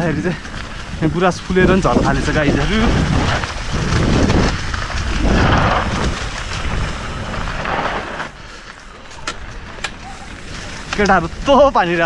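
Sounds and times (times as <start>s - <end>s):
mountain bike rattling on dirt: 0.0s - 12.0s
wind buffeting microphone: 0.0s - 12.0s.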